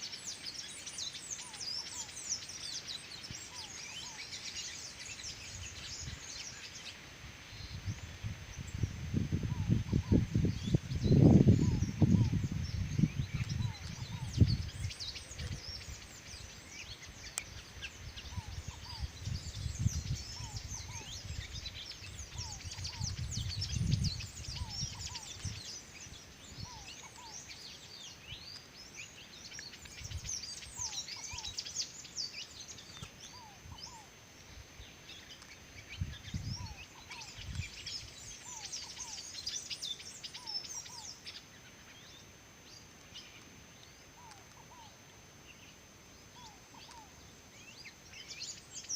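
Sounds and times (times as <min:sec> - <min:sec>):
birds chirping and twittering: 0:00.0 - 0:48.9.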